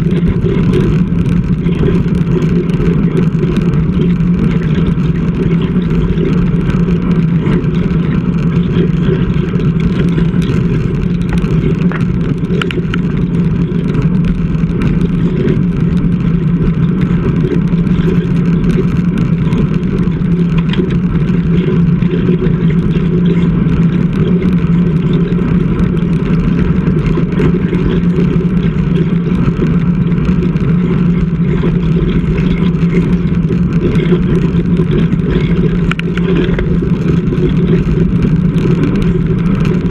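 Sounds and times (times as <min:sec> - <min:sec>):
low drone: 0:00.0 - 0:39.9
wind and road rush: 0:00.0 - 0:39.9.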